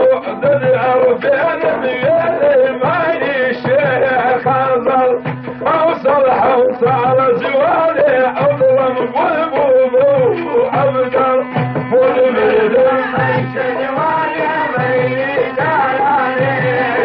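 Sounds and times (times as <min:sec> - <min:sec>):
folk song ornamented melody: 0:00.0 - 0:17.0.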